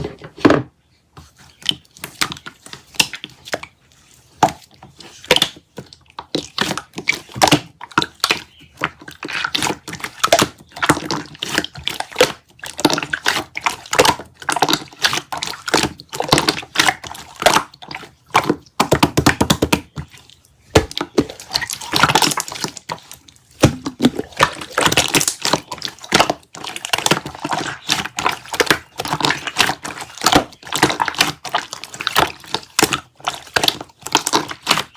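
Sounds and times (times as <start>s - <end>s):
slime squishing with wet clicks: 4.4s - 34.9s.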